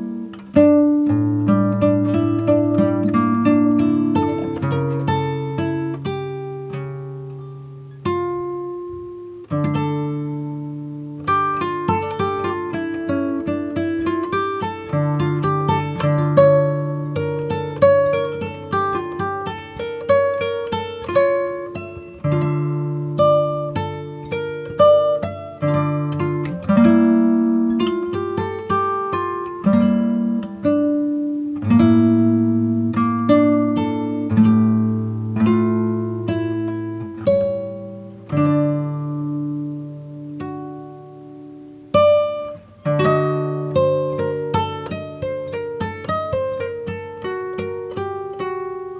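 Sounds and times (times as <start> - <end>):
gentle plucked guitar music: 0.0 - 48.9.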